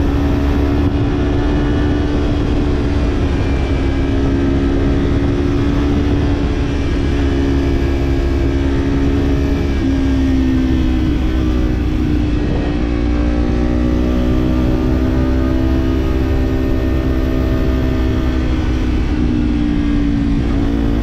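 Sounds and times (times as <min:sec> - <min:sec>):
motorcycle engine cruising: 0:00.0 - 0:21.0
wind rumble on microphone: 0:00.0 - 0:21.0.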